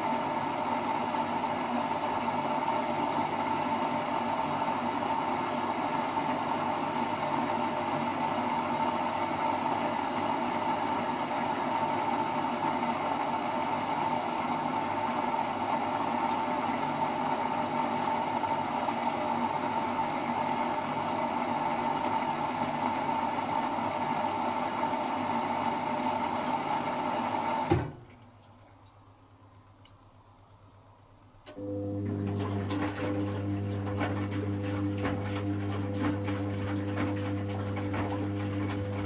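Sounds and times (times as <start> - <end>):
washing machine humming: 0.0 - 39.0.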